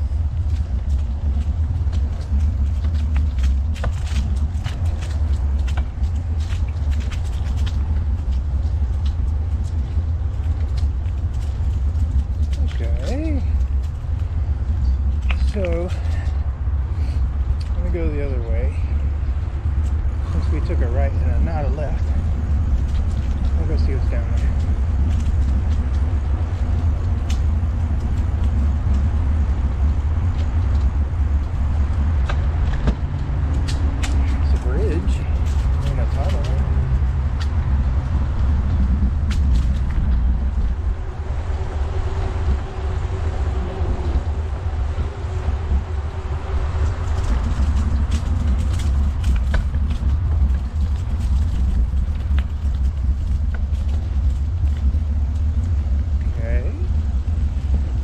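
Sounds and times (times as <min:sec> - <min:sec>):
bike tyres rolling: 0:00.0 - 0:58.0
wind buffeting microphone: 0:00.0 - 0:58.0.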